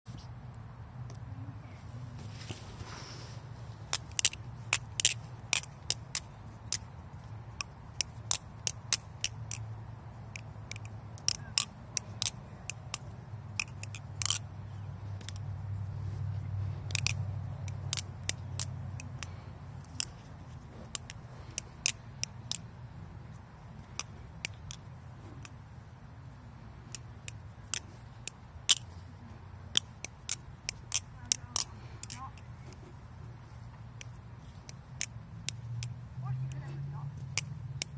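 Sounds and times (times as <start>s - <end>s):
butterfly knife handles clacking: 3.8s - 37.9s.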